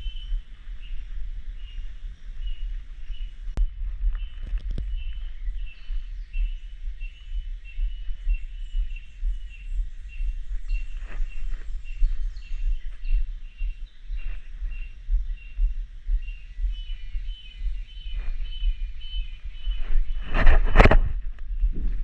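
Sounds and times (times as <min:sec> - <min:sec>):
heavy low rumble: 0:00.0 - 0:22.0.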